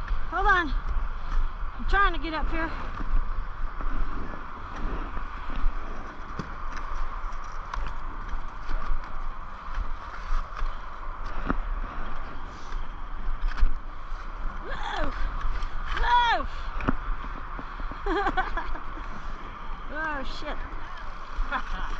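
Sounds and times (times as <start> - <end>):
flickering low rumble: 0.0 - 21.9.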